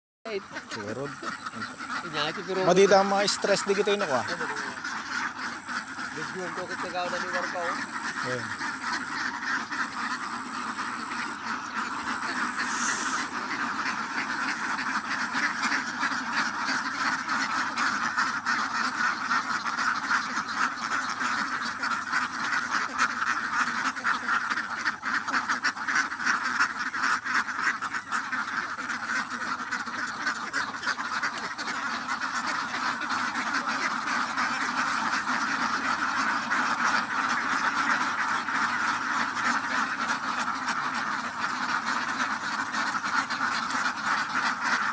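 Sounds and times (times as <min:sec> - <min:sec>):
ducks quacking: 0:00.3 - 0:44.9.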